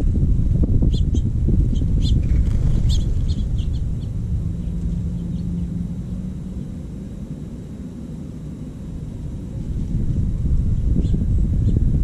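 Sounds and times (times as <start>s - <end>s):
faint low hum: 0.0s - 12.0s
steady low rumble: 0.0s - 12.0s.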